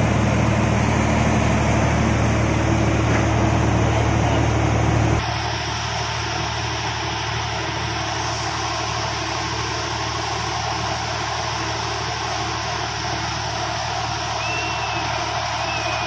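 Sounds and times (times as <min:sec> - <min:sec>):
engine-like drone: 0:00.0 - 0:16.0.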